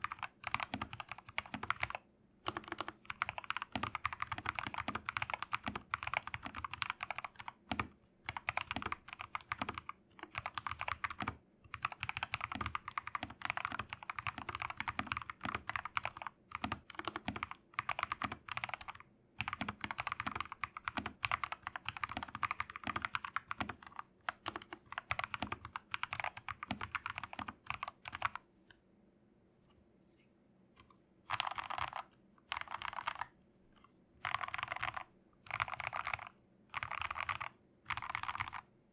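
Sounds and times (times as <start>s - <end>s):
mechanical keyboard typing: 0.0s - 28.4s, 31.3s - 33.4s, 34.2s - 38.7s.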